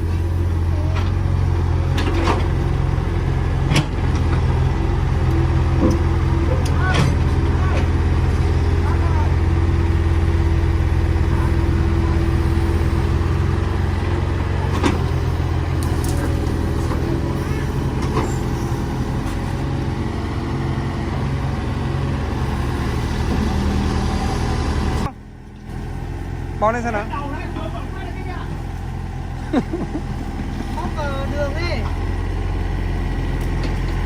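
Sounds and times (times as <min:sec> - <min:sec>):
excavator diesel engine: 0:00.0 - 0:34.0.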